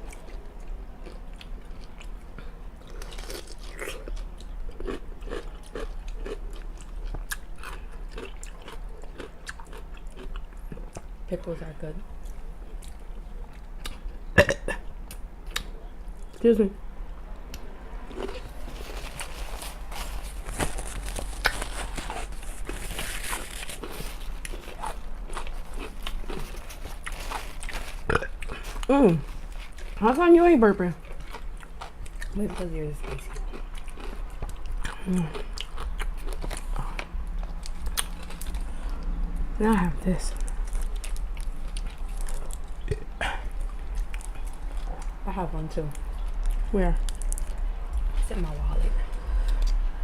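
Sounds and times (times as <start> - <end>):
person chewing crunchy pickle: 0.0 - 11.2, 12.1 - 16.4, 17.4 - 45.3, 45.9 - 48.2.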